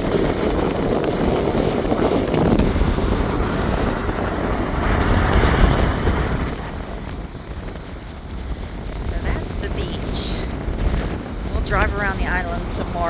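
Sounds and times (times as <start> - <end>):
heavy storm surf: 0.0 - 13.0
wind buffeting microphone: 0.0 - 13.0.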